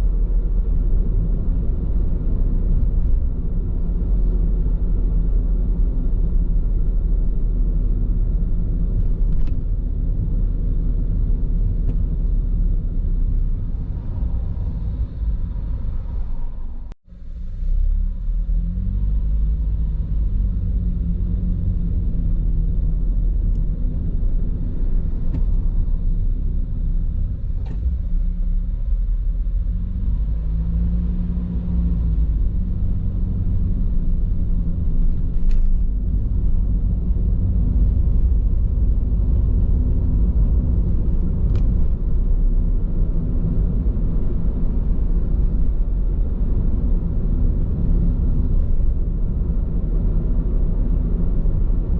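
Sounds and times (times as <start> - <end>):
tyre and road rumble: 0.0 - 51.9.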